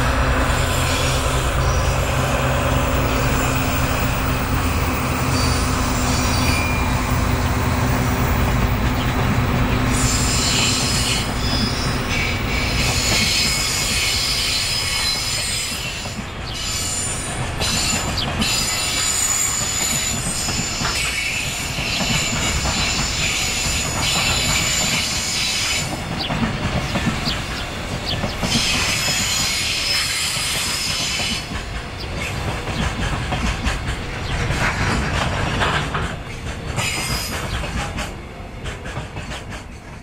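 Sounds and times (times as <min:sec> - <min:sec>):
freight train rumble: 0:00.0 - 0:40.0
train wheels squealing: 0:00.4 - 0:32.9, 0:33.6 - 0:38.1.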